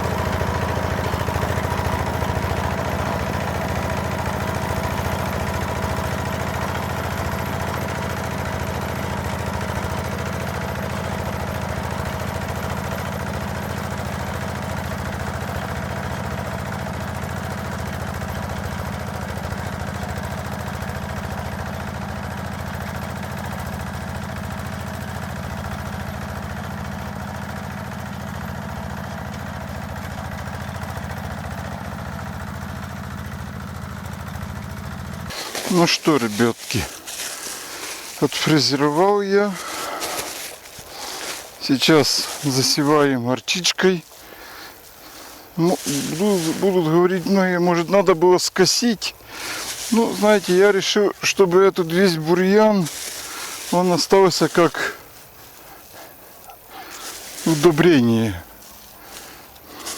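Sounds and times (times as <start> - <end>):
rotary tiller cutting ground: 0.0 - 59.9
walk-behind tractor engine running: 0.0 - 59.9.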